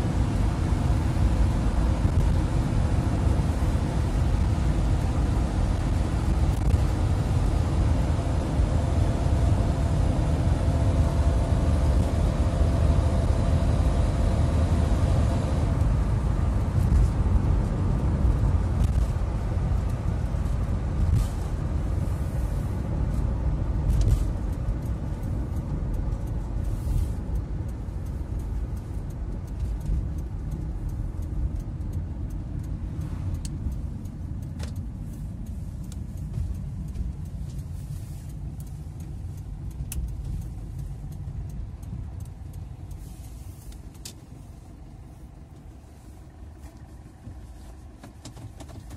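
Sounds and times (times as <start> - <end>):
diesel engine droning: 0.0 - 48.9
road and wind noise: 0.0 - 48.9.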